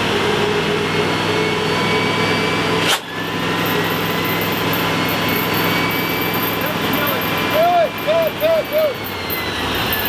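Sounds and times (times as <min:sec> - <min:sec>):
thin whining tones: 0:01.1 - 0:10.0.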